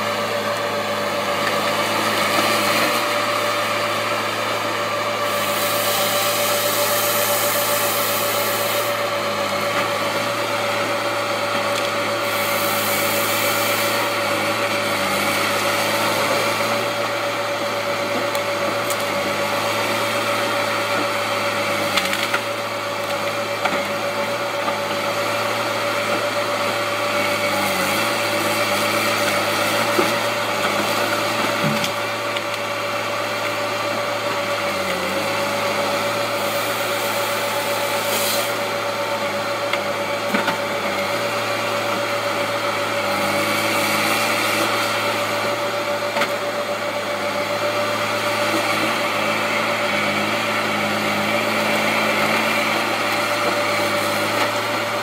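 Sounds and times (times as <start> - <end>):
constant high whine: 0.0 - 55.0
harvester engine and hydraulics: 0.0 - 55.0.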